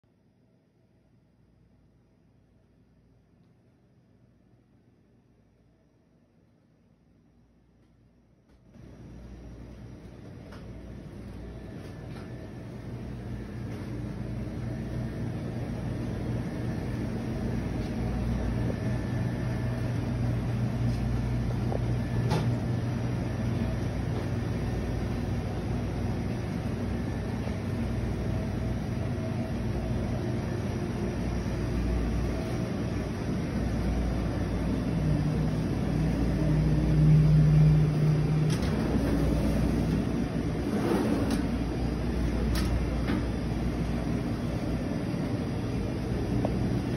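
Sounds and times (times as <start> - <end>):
low mechanical hum: 0.1 - 46.9.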